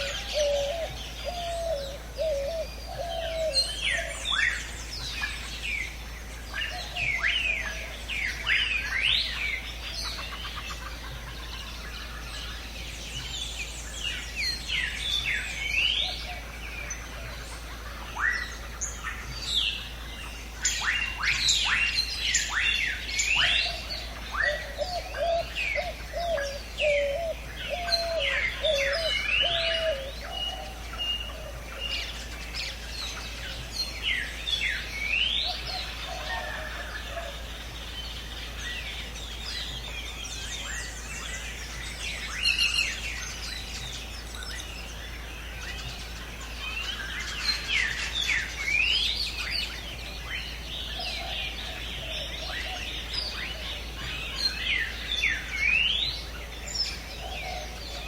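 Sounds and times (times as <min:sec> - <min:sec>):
birds chirping and whistling: 0:00.0 - 0:58.0.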